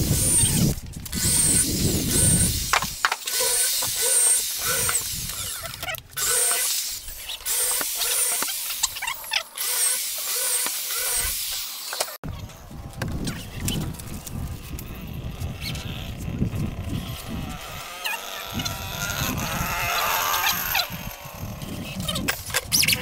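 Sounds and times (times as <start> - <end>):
electric drill boring into wood: 0.0 - 12.2, 14.7 - 23.0.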